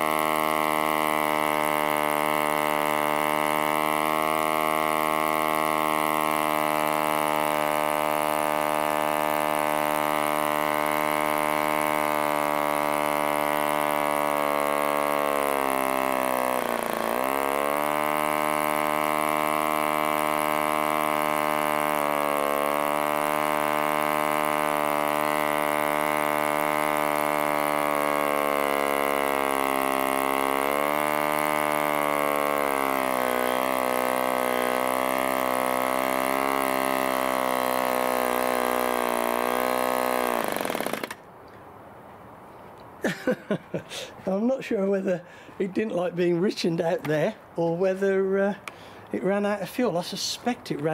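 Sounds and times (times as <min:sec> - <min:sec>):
model aero engine buzzing: 0:00.0 - 0:41.3.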